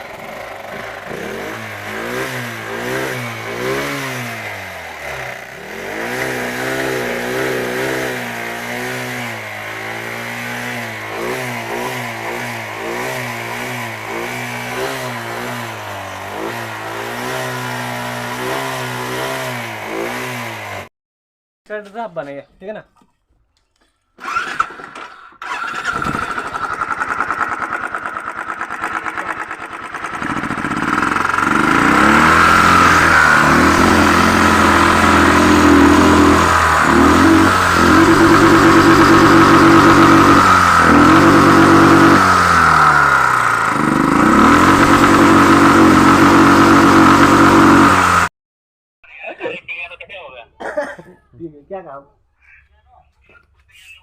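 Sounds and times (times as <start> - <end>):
motorcycle engine starting and revving: 0.0 - 20.9, 24.2 - 48.3.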